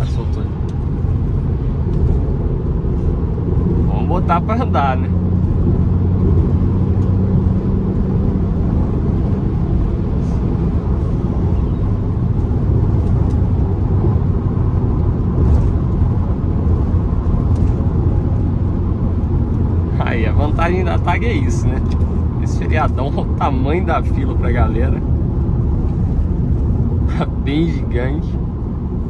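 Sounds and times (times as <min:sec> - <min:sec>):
car engine drone: 0:00.0 - 0:29.0.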